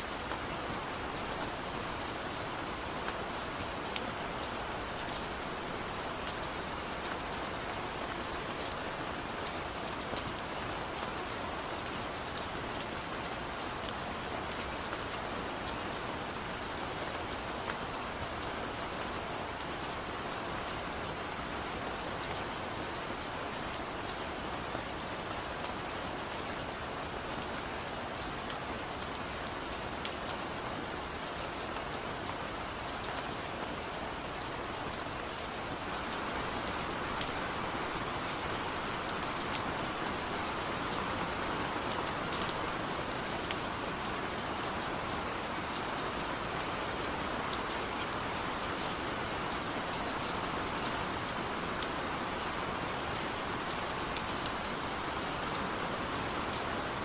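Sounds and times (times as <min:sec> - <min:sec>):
rain with drops ticking: 0:00.0 - 0:57.0.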